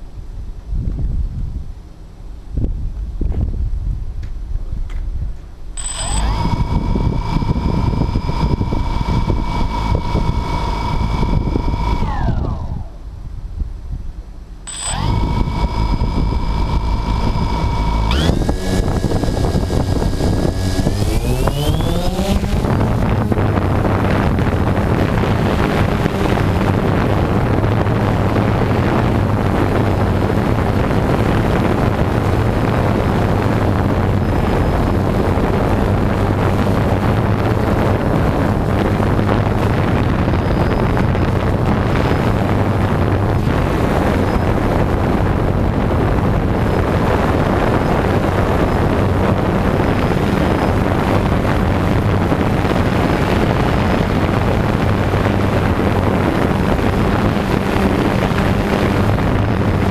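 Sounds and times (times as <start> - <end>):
wind noise on microphone: 0.0 - 59.9
drone propellers spinning: 5.8 - 13.4, 14.2 - 59.9.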